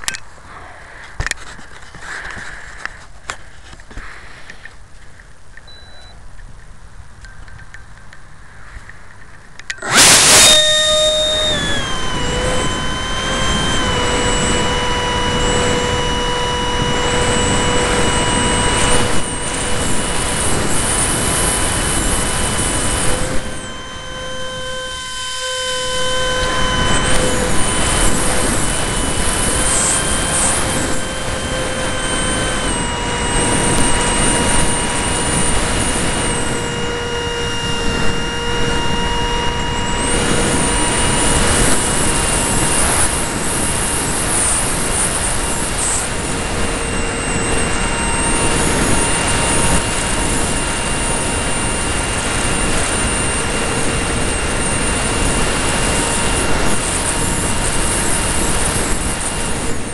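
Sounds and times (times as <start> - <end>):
electric fan jet whine: 0.0 - 59.9.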